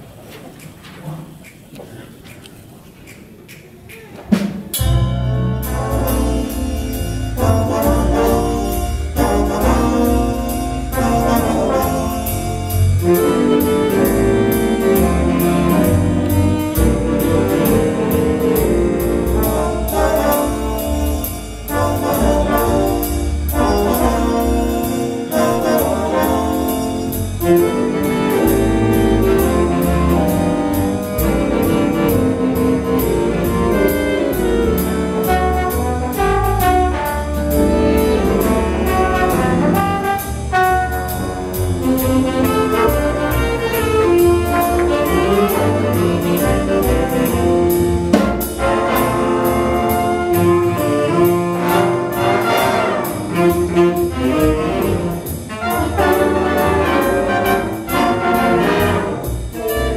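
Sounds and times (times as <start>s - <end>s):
jazz band playing: 3.2s - 59.9s.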